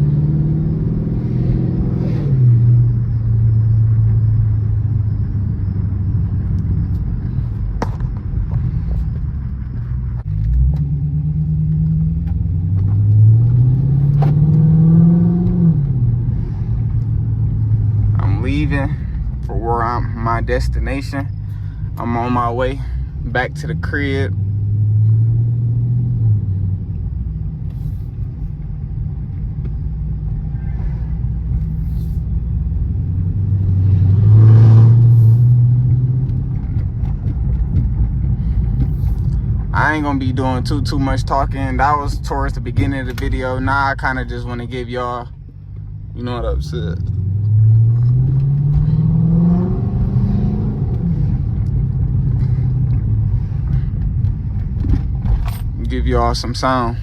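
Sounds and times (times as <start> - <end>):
car engine from inside cabin: 0.0 - 57.0
road rumble: 0.0 - 57.0.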